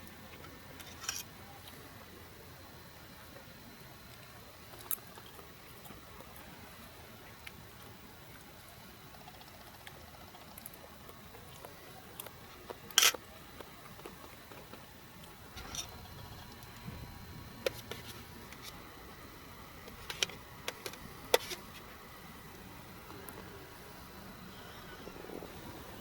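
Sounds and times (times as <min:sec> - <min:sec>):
faint steady background noise: 0:00.0 - 0:26.0.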